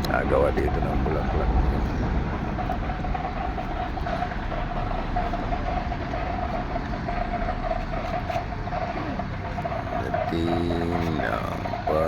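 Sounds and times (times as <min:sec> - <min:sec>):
motor running with whine: 0:00.0 - 0:12.0.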